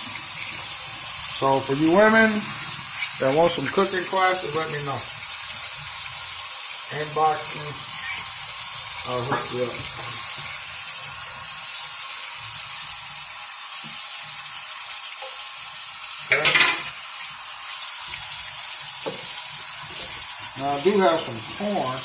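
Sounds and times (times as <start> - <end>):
faucet running into sink: 0.0 - 22.0.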